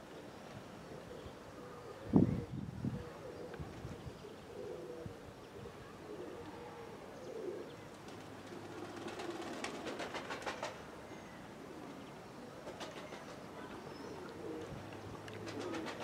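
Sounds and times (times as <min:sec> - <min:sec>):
pigeons cooing: 0:00.8 - 0:10.7, 0:11.4 - 0:16.0.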